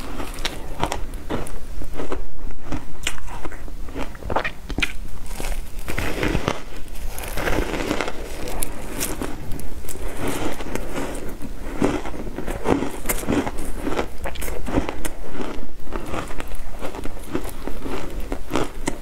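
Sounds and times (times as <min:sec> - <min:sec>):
ice being chewed with crunches: 0:00.0 - 0:19.0.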